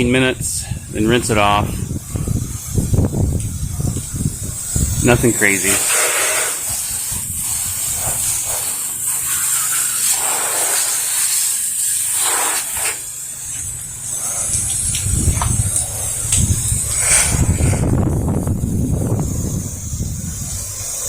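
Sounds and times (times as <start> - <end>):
wind rumbling on microphone: 0.0 - 9.4, 13.5 - 21.0
pressure washer spray hiss: 0.6 - 21.0.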